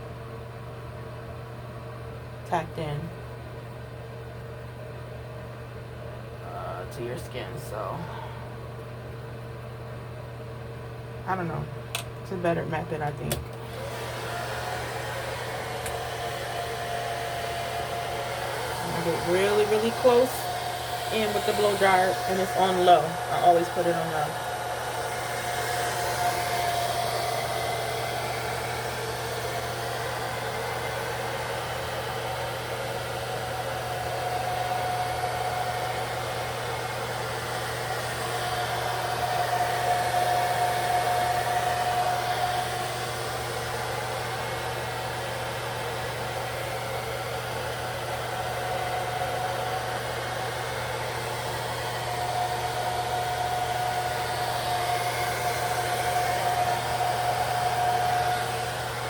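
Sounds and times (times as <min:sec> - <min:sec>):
hair dryer whirring: 0:00.7 - 0:59.0.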